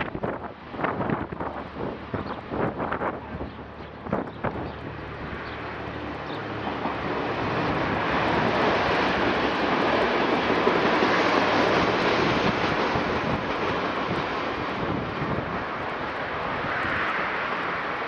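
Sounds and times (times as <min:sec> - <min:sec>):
diesel train engine passing: 0:00.0 - 0:18.0
train wheel noise on track: 0:00.0 - 0:18.0.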